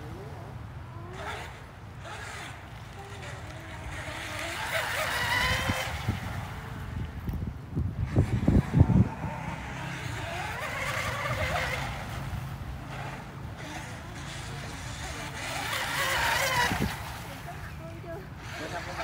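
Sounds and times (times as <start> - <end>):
rc boat motor whining: 0.0 - 19.0.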